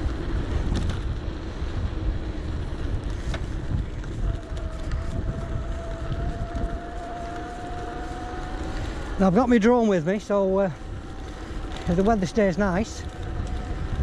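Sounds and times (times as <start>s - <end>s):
bike rolling noise: 0.0s - 14.0s
low steady rumble: 0.0s - 14.0s
steady high whine: 0.0s - 14.0s
wind buffeting microphone: 0.0s - 14.0s.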